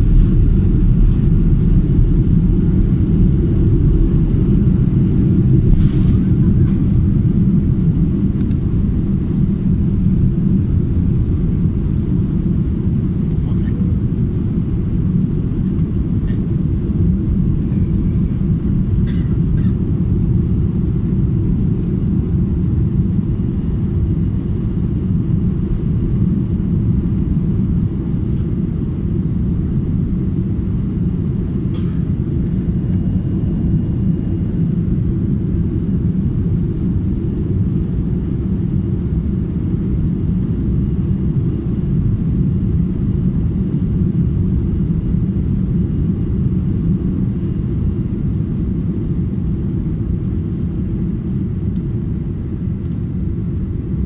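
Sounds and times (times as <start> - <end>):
airliner engines rumbling in cabin: 0.0 - 54.0.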